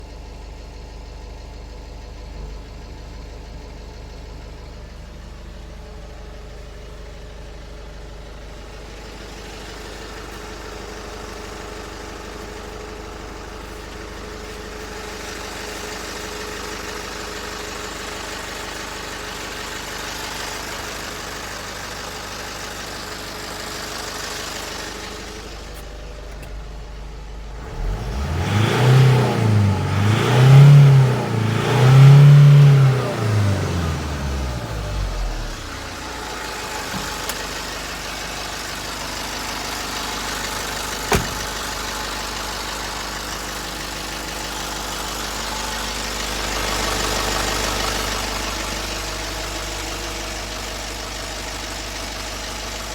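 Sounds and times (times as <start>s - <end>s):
truck engine idling and revving: 0.0s - 52.9s.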